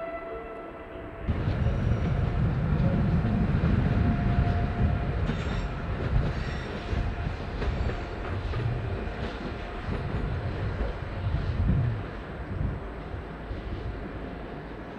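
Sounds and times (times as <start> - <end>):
train rumbling on tracks: 0.0 - 14.9.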